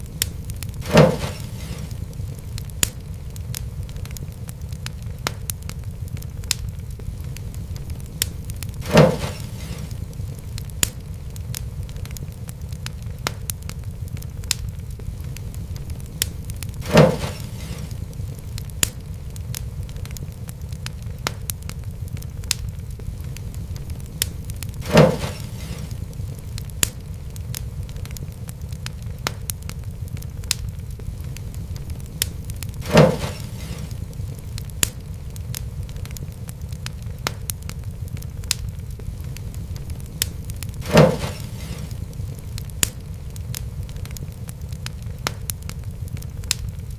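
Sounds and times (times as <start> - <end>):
loud fire pops: 0.0 - 46.9
low fire rumble: 0.0 - 46.9
wood fire crackling: 0.0 - 46.9.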